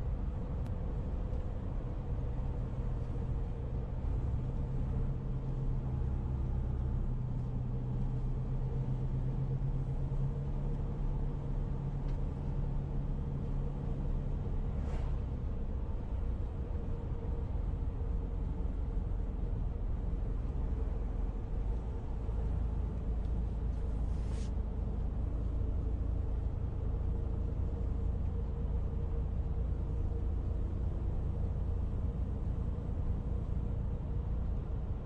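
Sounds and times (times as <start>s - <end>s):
faint constant hum: 0.0s - 35.0s
vehicle rumble: 0.0s - 35.0s.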